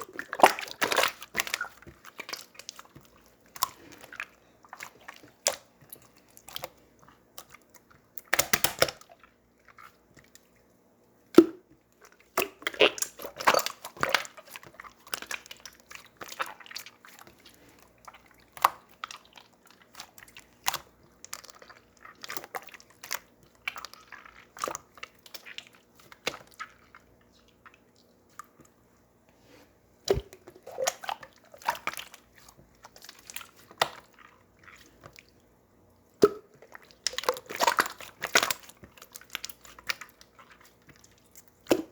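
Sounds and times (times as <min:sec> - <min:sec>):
close chewing and crunching: 0:00.0 - 0:10.6, 0:12.0 - 0:28.8, 0:30.2 - 0:35.4, 0:36.5 - 0:41.9.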